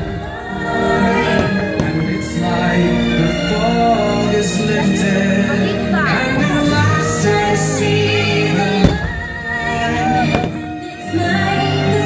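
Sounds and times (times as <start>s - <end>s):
soundtrack music with singing: 0.0s - 12.0s.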